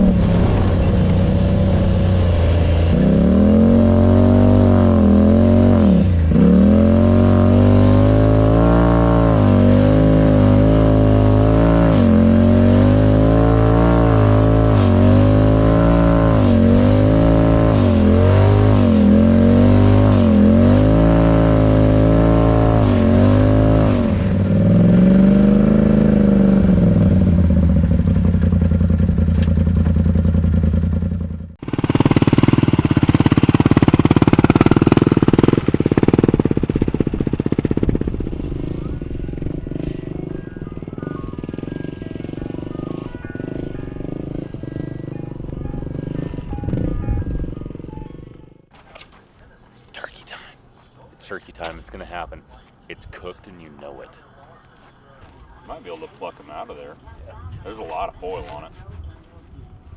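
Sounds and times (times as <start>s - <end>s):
off-road engine revving: 0.0s - 49.1s
different engine sound: 0.0s - 49.7s.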